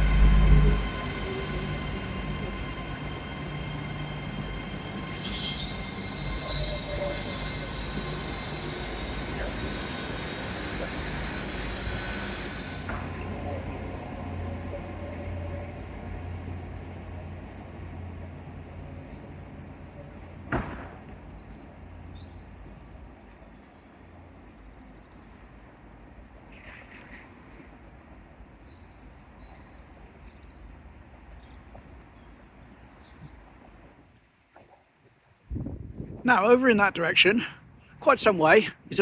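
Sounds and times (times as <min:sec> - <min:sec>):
train engine rumble: 0:00.0 - 0:34.1.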